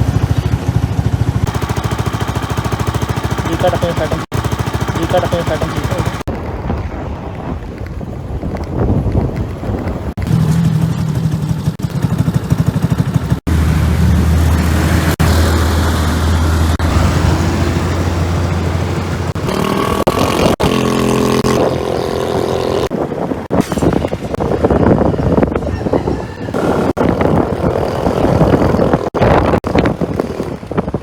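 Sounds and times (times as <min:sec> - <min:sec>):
scooter engine running: 0:00.0 - 0:06.3, 0:10.2 - 0:25.3, 0:26.5 - 0:31.0.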